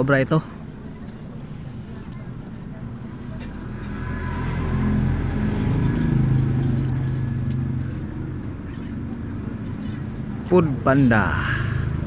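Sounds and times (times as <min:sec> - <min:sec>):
vehicle engine passing: 0:00.6 - 0:12.0.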